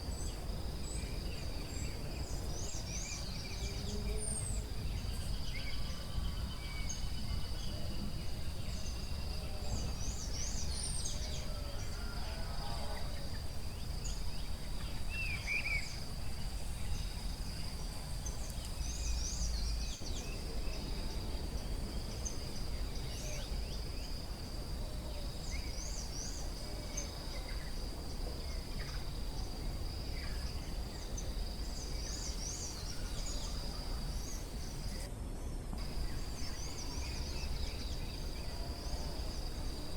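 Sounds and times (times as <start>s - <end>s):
high insect drone: 0.0s - 35.1s, 35.8s - 39.9s.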